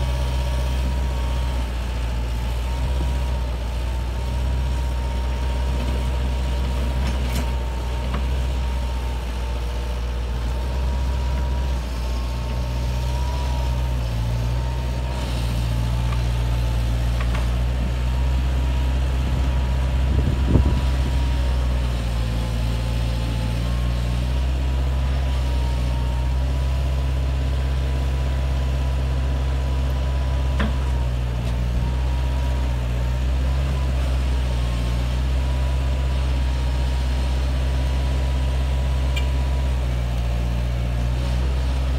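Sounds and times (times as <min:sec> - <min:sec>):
heavy machinery engines running: 0:00.0 - 0:41.9.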